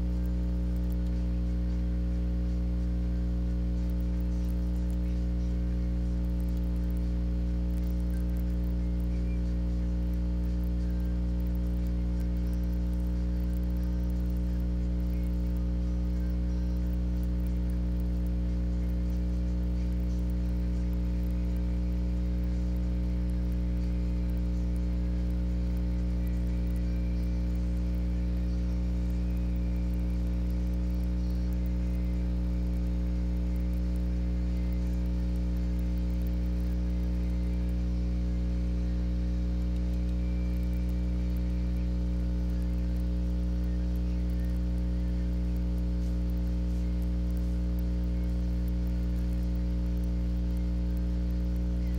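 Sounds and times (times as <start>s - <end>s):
electrical mains hum: 0.0s - 51.9s.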